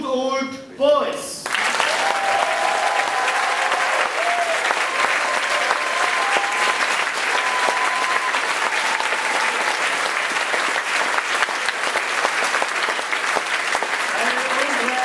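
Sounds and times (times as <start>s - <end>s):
crowd applauding: 1.4s - 15.0s.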